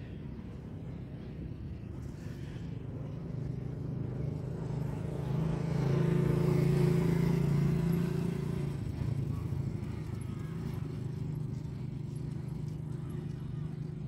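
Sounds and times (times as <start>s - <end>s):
low engine hum: 0.0s - 14.0s
motorcycle passing by: 0.0s - 14.0s.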